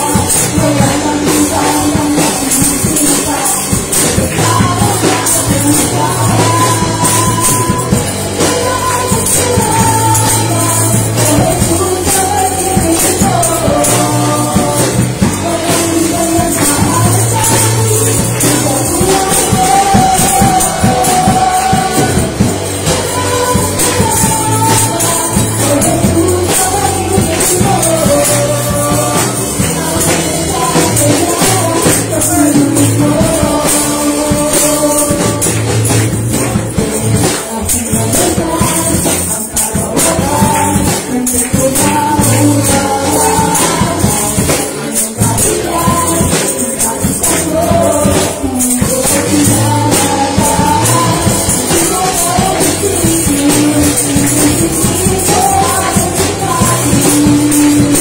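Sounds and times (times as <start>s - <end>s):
bass guitar: 0.0s - 58.0s
electric guitar: 0.0s - 58.0s
tambourine jingling: 0.0s - 58.0s
woman singing: 0.0s - 58.0s.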